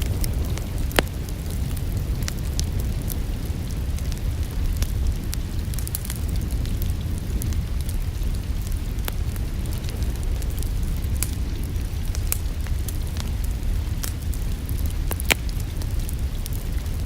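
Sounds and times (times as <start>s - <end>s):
rain hissing: 0.0s - 17.0s
wood fire crackling: 0.0s - 17.0s.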